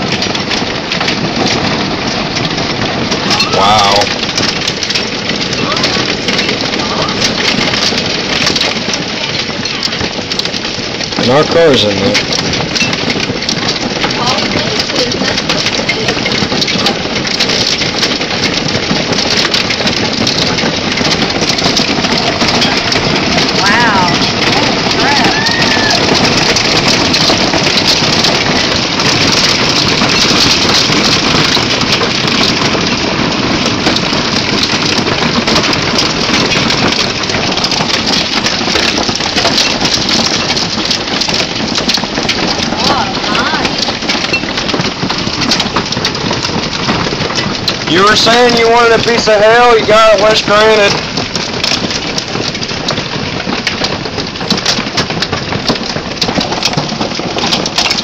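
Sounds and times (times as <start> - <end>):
heavy hail and rain falling: 0.0 - 58.0.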